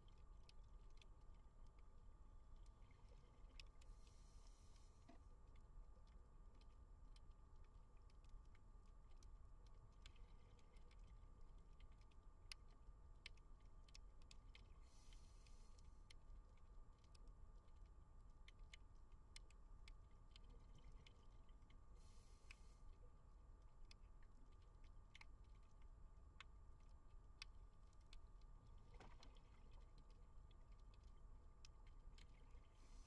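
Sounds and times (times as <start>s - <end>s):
underwater clicks and crackles: 0.0s - 33.0s.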